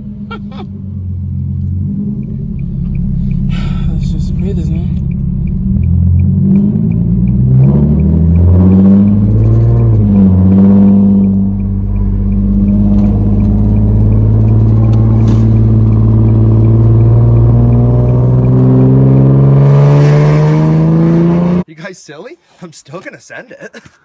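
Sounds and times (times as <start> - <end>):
car engine accelerating: 0.0 - 21.7.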